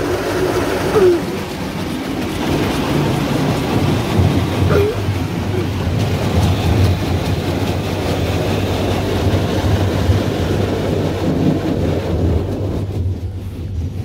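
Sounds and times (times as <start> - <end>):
car wash machinery rumble: 0.0 - 14.0
water spraying against windows: 0.0 - 14.0.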